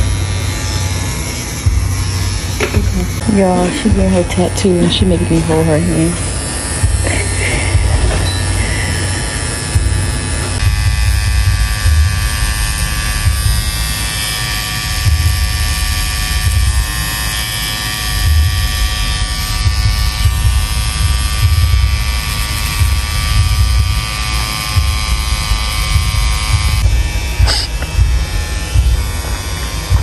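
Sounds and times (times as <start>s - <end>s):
low rumble: 0.0s - 17.2s, 18.1s - 24.2s, 24.8s - 30.0s
tattoo machine buzzing: 0.0s - 30.0s.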